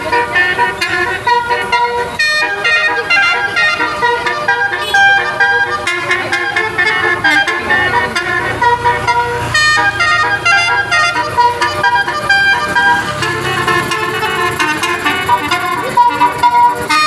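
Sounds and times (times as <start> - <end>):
multi-tone bus air horn tune: 0.0 - 17.0.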